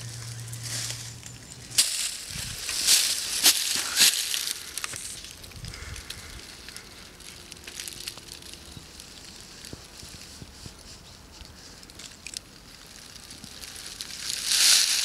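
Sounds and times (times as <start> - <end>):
dry twigs rustling and crackling: 0.0 - 15.0.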